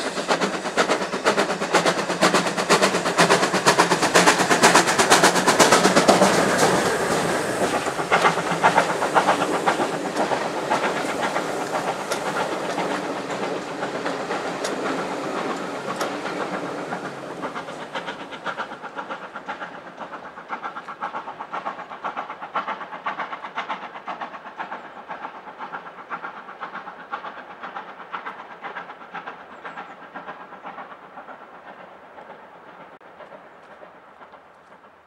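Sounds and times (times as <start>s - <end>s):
steam locomotive exhaust and wheels: 0.0s - 35.0s.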